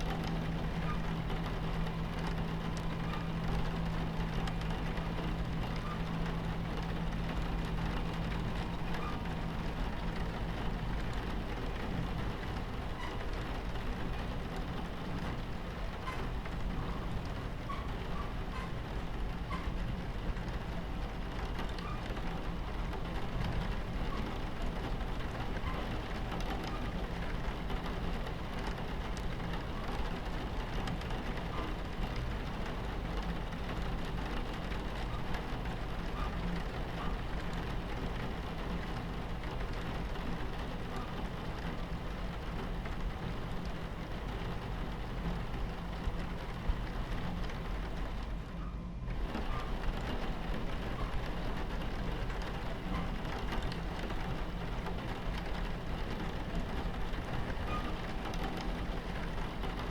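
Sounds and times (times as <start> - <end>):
moving train rumble: 0.0 - 59.9
rain against train window: 0.0 - 59.9.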